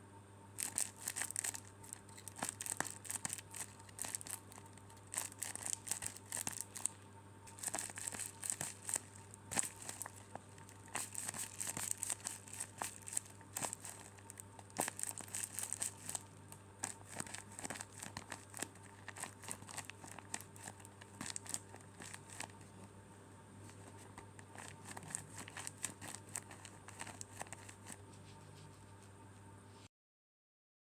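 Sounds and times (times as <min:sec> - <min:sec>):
squishy toy crinkling: 0:00.6 - 0:22.9, 0:23.6 - 0:28.0.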